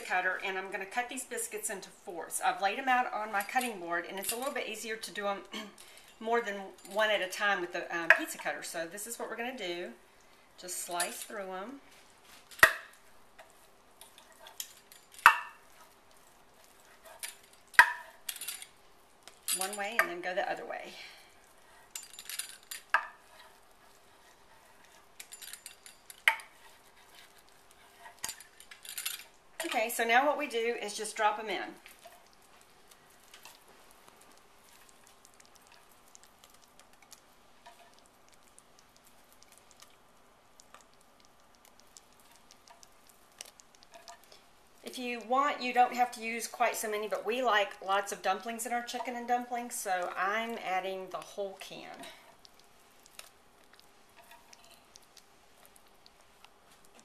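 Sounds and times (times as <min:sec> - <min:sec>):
quiet room hiss: 0:00.0 - 0:57.0.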